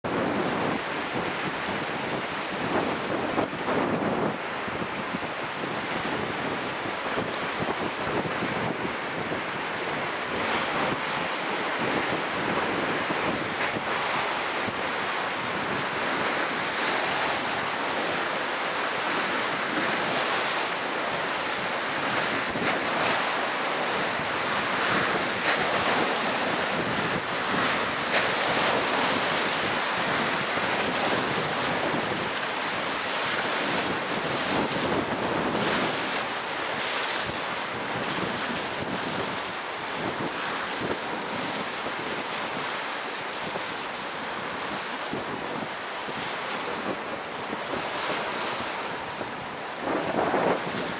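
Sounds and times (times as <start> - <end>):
rushing water: 0.0 - 50.9
wind: 0.0 - 50.9.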